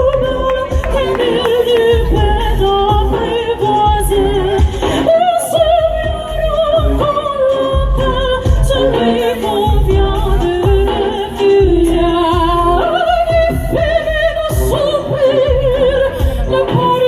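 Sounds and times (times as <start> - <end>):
musical accompaniment: 0.0 - 17.0
sopranos singing with vibrato: 0.0 - 17.0.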